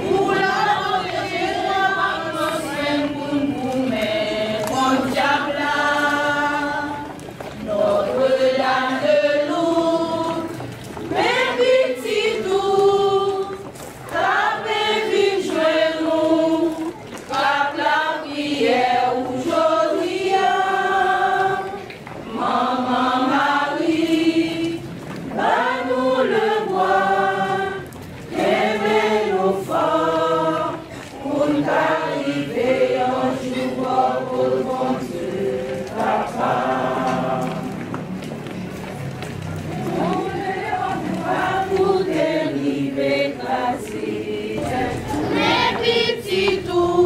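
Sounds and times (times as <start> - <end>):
choir singing a hymn: 0.0 - 38.1, 39.7 - 47.0.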